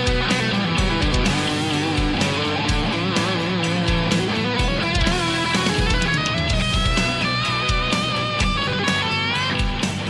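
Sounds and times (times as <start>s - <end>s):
heavy rock song: 0.0s - 10.0s.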